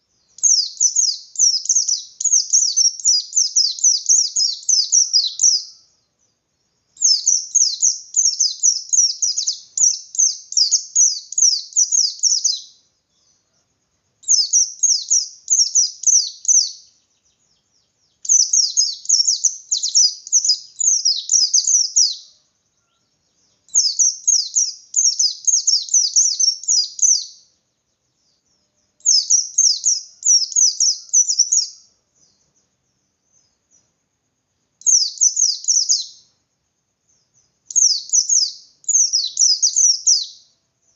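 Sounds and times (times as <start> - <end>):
bird chirping rapidly: 0.0 - 5.9, 7.0 - 13.4, 14.2 - 22.4, 23.2 - 27.5, 28.4 - 32.6, 34.8 - 36.3, 37.2 - 40.6.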